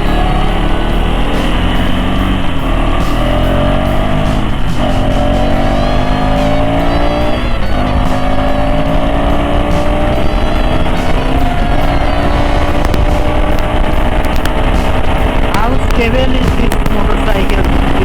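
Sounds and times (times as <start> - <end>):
motorcycle engine accelerating: 0.0 - 18.0
wind noise: 0.0 - 18.0.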